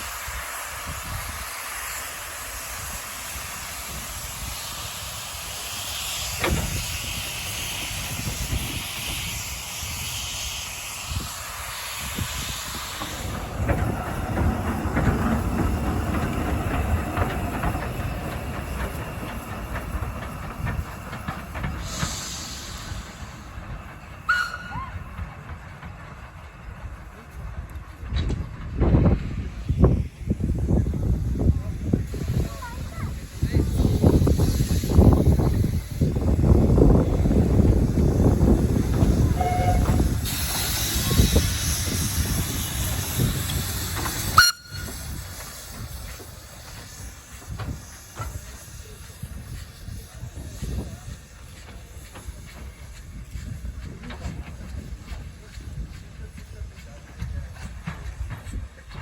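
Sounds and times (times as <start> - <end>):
steam hissing: 0.0 - 59.0
train rumbling and rattling wheels: 0.0 - 59.0.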